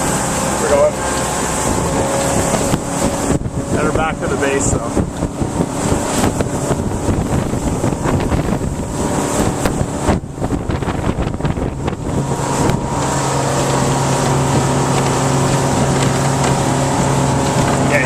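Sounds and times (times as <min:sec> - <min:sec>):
boat engine running: 0:00.0 - 0:18.0
water noise: 0:00.0 - 0:18.0
wind buffeting microphone: 0:00.0 - 0:18.0.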